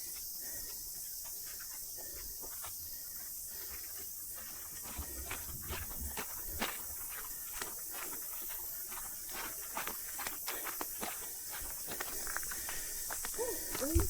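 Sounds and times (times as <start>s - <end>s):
cicadas droning: 0.0s - 14.0s
footsteps on a track: 0.0s - 14.0s.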